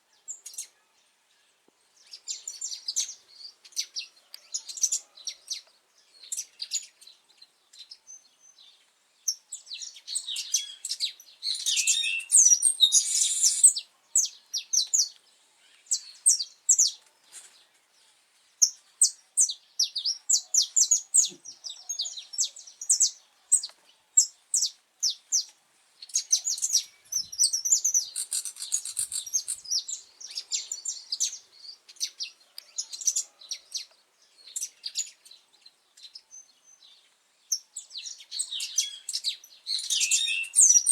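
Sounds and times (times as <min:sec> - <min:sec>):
finch singing chirps and trills: 0:02.0 - 0:15.2, 0:18.6 - 0:40.9.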